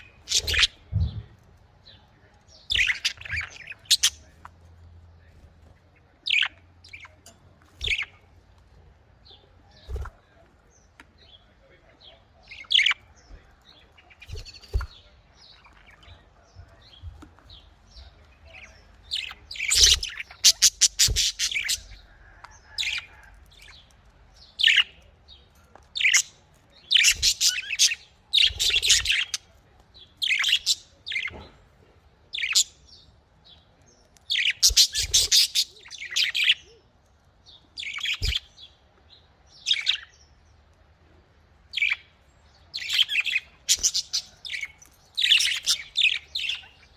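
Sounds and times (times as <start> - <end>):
budgerigars chirping and chattering: 0.0 - 36.8, 37.4 - 46.9.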